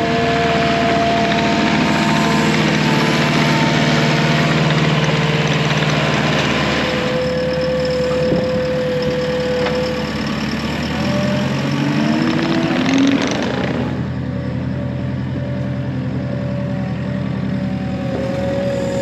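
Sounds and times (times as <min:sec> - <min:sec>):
farm machine engine running: 0:00.0 - 0:19.0
steady whine: 0:00.0 - 0:19.0.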